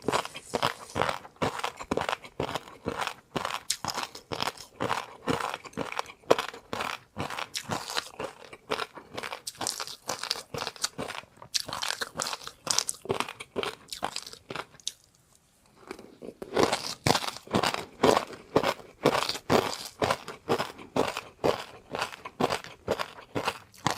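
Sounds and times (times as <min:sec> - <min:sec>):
person chewing crunchy food: 0:00.0 - 0:23.9.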